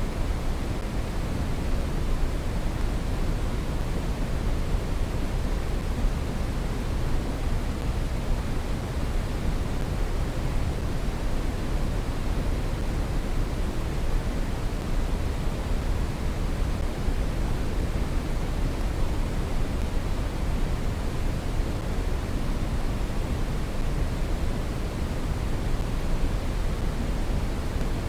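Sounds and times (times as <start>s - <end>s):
brown noise hiss: 0.0s - 28.0s.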